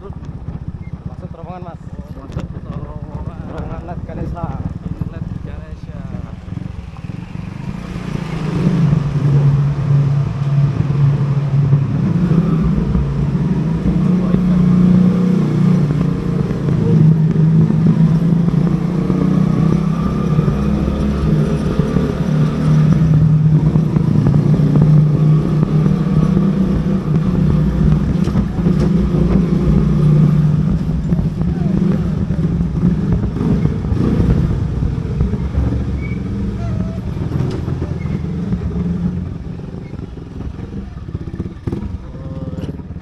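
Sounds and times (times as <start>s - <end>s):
motorcycle engine cruising in tunnel: 0.0s - 43.0s.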